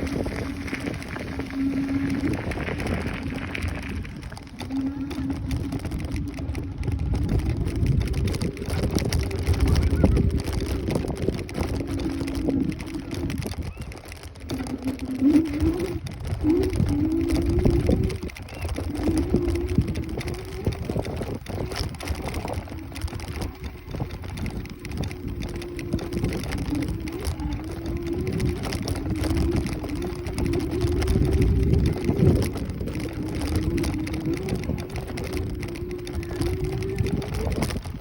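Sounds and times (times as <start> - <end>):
electric scooter motor whine: 0.0 - 38.0
wind and road rumble: 0.0 - 38.0.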